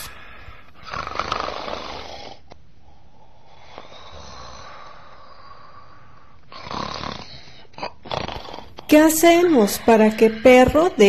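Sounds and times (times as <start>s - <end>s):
person snoring: 0.0s - 11.0s.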